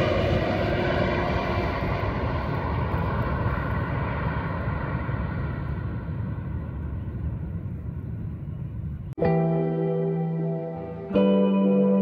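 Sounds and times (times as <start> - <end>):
jet airliner engines rumbling: 0.0 - 11.4
jet engine whine: 0.0 - 12.0.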